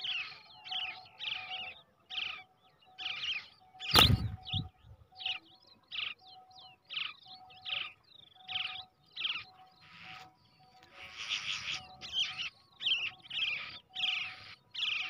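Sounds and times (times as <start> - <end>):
chicks giving begging calls: 0.0 - 15.0.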